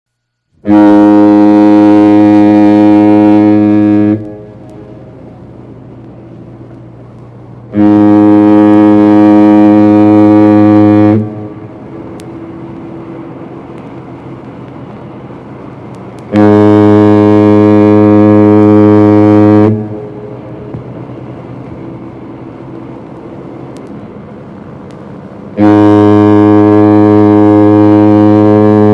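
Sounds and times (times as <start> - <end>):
low rumble: 0.4 - 28.9
ship's foghorn blasts: 0.5 - 28.9.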